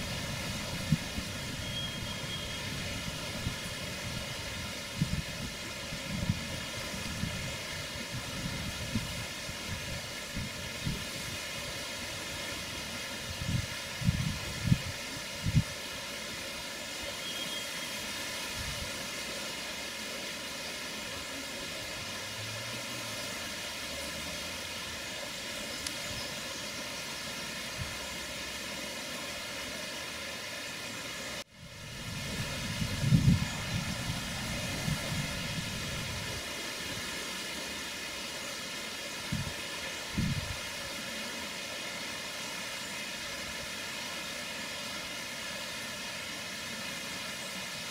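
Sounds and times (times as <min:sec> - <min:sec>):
outdoor background noise: 0:00.0 - 0:47.9.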